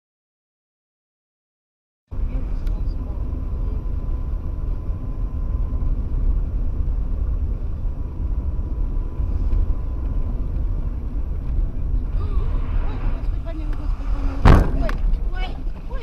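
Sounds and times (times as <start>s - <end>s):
tyres on road: 2.1s - 16.0s
vehicle engine rumble: 2.1s - 16.0s.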